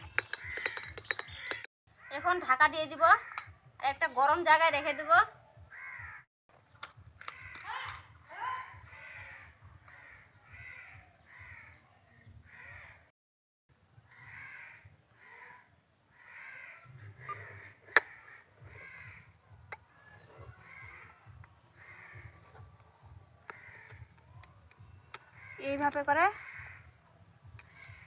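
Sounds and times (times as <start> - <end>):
crows cawing: 0.1 - 2.4, 3.0 - 3.7, 5.4 - 6.3, 7.2 - 13.1, 14.0 - 24.4, 25.1 - 28.0.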